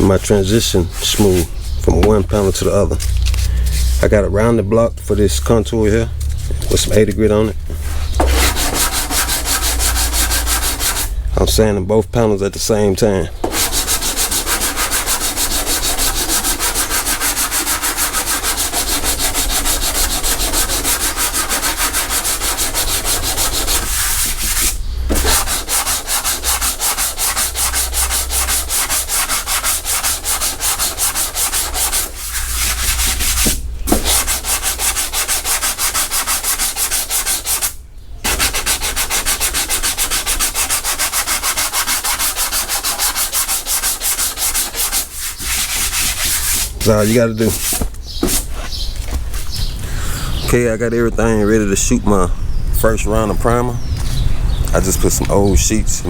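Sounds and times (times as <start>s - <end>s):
hand sanding strokes: 0.0s - 11.7s, 13.4s - 49.8s.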